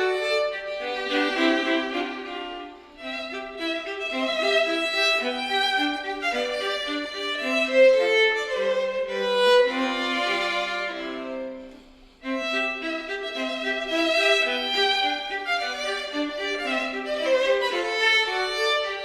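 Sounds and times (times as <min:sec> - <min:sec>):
violin and viola duet: 0:00.0 - 0:19.0.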